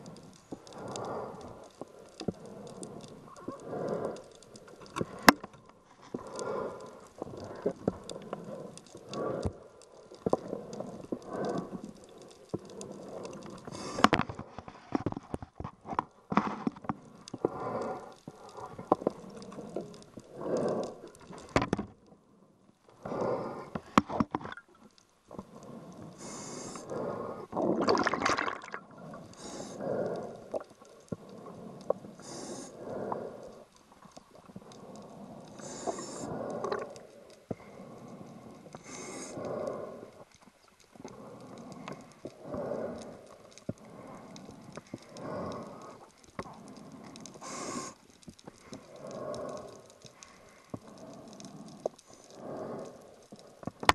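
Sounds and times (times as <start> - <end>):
diver breathing through regulator: 0.0 - 15.0, 17.1 - 21.7, 23.0 - 24.6, 25.3 - 40.4, 41.0 - 53.8.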